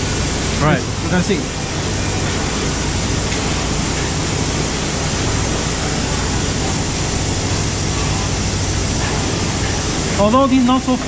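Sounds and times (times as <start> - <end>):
machinery rushing noise: 0.0 - 11.0.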